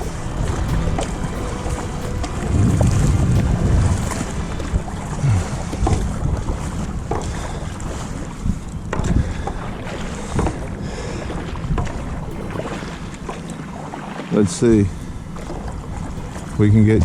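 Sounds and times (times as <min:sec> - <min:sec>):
wind buffeting microphone: 0:00.0 - 0:14.1
paddle splashing in water: 0:00.0 - 0:17.0.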